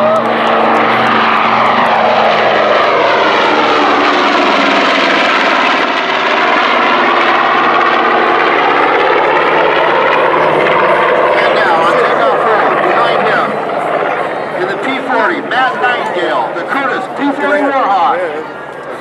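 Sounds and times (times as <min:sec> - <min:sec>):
propeller aircraft engines droning: 0:00.0 - 0:19.0.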